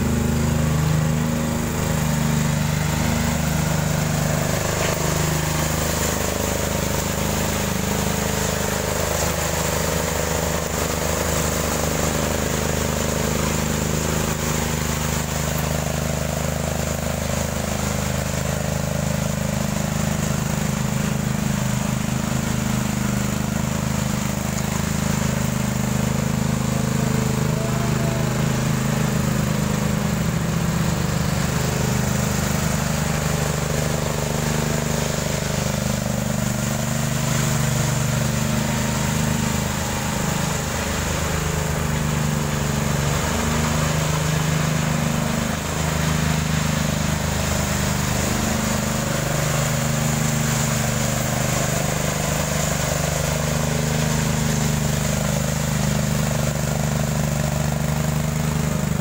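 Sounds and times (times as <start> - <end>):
power trowel engine running: 0.0 - 59.0.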